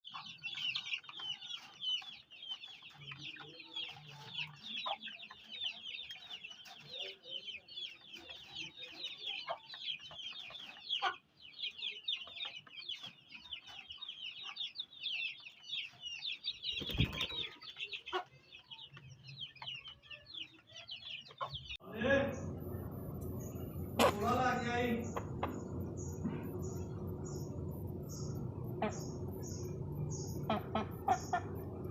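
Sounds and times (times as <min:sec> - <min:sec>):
chicks cheeping: 0:00.0 - 0:31.9.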